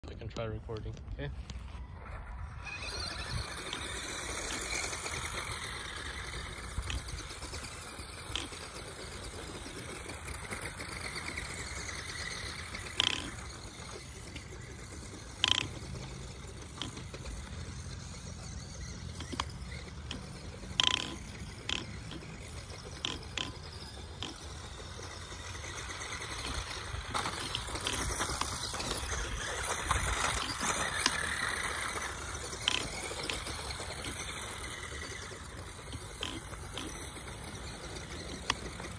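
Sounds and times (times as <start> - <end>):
small electric motors and gears: 0.0 - 38.9
tyres on dirt and gravel: 0.0 - 38.9.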